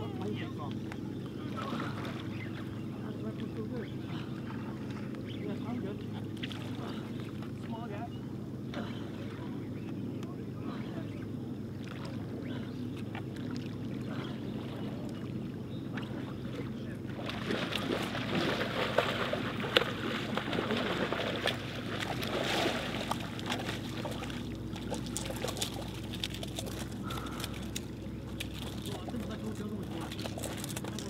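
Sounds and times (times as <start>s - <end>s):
low hum: 0.0s - 31.0s
water noise: 0.0s - 31.0s.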